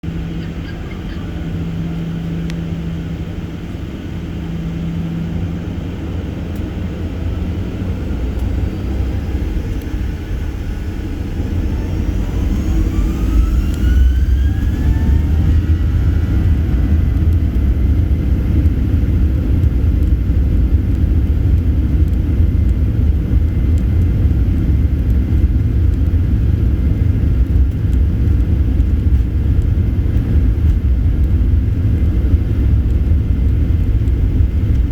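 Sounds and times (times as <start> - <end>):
jet engines from inside cabin: 0.0 - 34.9.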